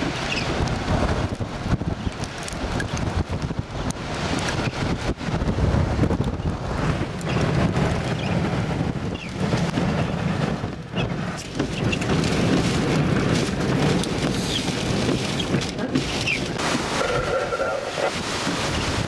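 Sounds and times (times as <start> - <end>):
gusting wind buffeting microphone: 0.0 - 19.0
rain: 0.0 - 19.0.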